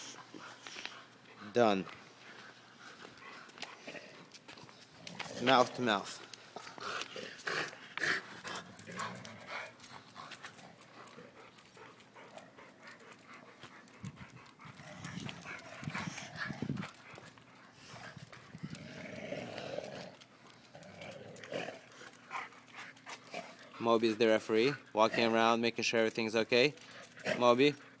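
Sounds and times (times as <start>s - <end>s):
dogs making low sounds: 0.0s - 26.1s
dog claws clicking and scraping: 0.1s - 28.0s.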